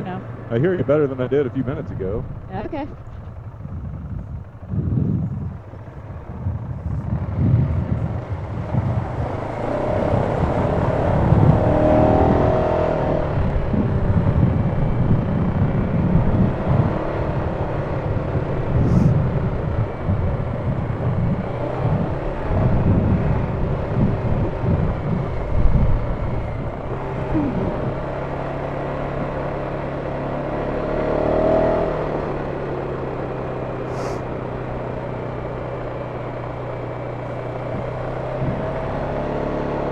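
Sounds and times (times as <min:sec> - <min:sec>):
low rumbling on microphone: 0:00.0 - 0:30.8, 0:31.8 - 0:39.9
engine running: 0:00.0 - 0:39.9.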